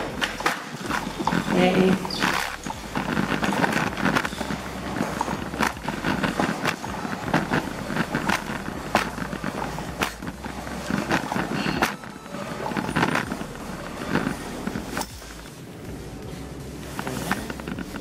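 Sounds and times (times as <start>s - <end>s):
nylon jacket rustling: 0.0s - 18.0s.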